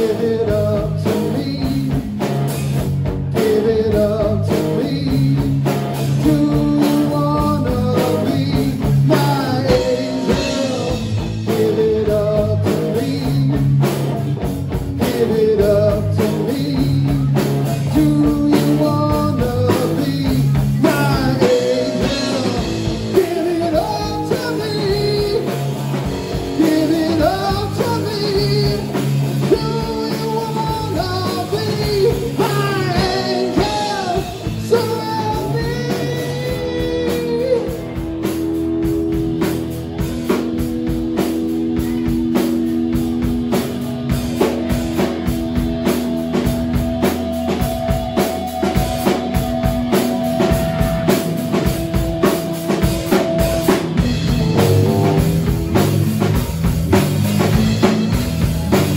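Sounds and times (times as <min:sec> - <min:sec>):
bass guitar: 0:00.0 - 0:58.9
drum kit: 0:00.0 - 0:58.9
electric guitars bending lead: 0:00.0 - 0:58.9.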